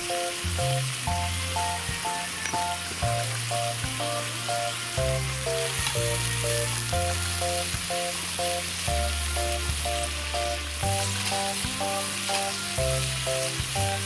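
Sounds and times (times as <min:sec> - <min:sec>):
background music with bass line: 0:00.0 - 0:14.0
food sizzling in a pan: 0:00.0 - 0:14.0.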